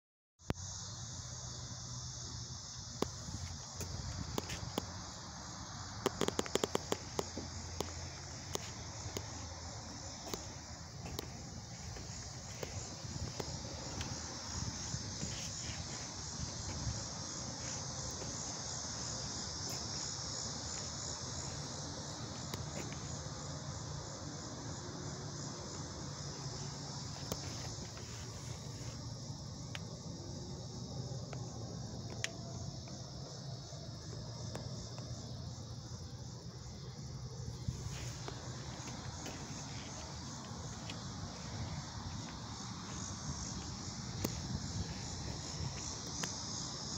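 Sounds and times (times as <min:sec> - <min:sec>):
insects buzzing: 0:00.4 - 0:46.9.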